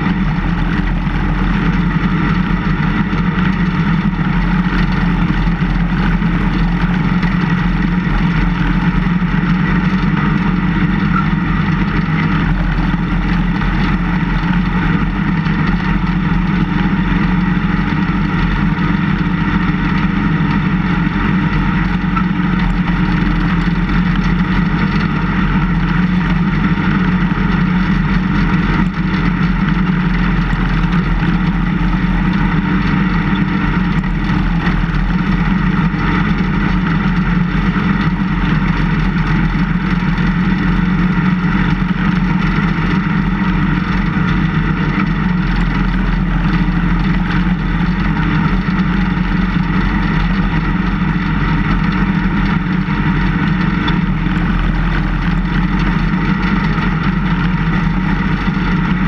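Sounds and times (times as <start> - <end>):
snowplow engine running: 0.0 - 59.0.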